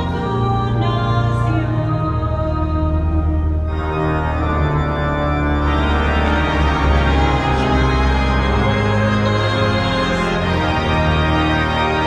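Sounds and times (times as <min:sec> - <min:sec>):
pipe organ playing chords: 0:00.0 - 0:12.0.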